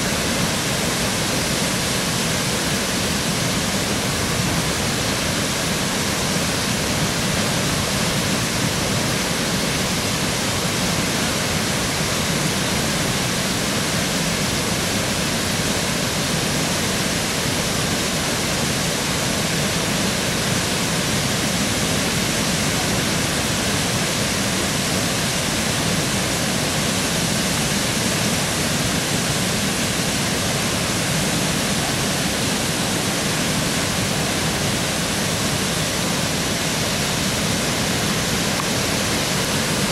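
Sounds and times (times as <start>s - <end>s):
river rushing over a dam: 0.0s - 39.9s.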